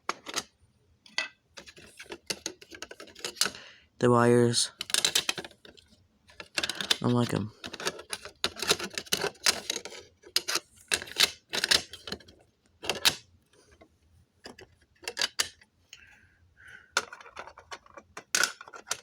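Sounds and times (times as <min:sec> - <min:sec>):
plastic clicks and clatter: 0:00.0 - 0:03.6, 0:04.7 - 0:15.7, 0:16.9 - 0:19.0.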